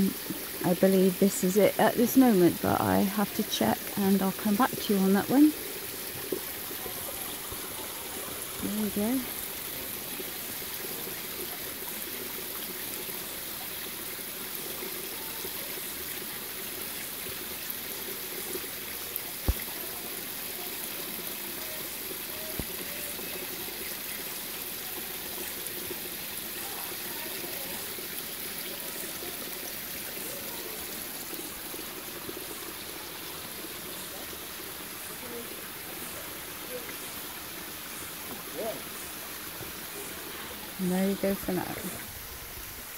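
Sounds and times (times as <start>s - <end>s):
small waterfall trickling: 0.0s - 42.9s.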